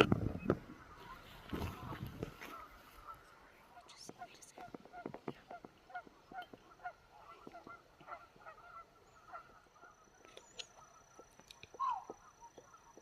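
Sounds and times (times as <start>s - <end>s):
geese honking: 0.7s - 3.9s, 4.9s - 11.2s, 11.8s - 13.0s.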